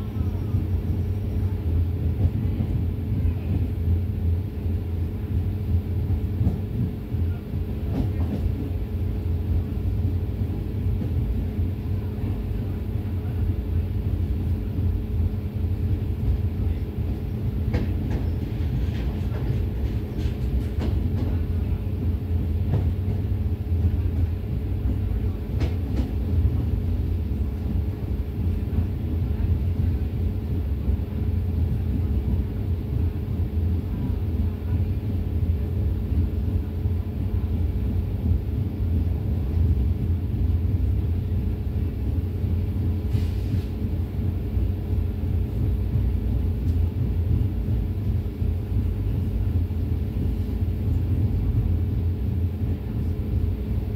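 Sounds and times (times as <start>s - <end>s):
train rumble inside carriage: 0.0s - 53.9s.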